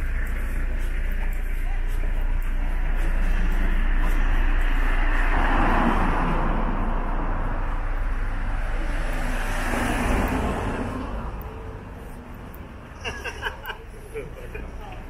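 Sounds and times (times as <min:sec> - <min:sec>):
van passing close: 0:00.0 - 0:15.0
vehicles driving past: 0:00.0 - 0:15.0.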